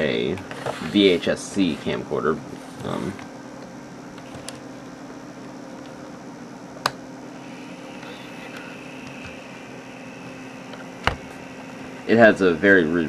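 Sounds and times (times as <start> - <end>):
faint high whine: 0.0 - 13.0
low electrical hum: 0.0 - 13.0.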